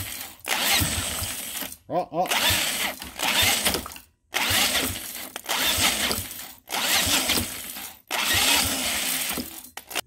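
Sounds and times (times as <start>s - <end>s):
small engine cranking: 0.0s - 10.0s.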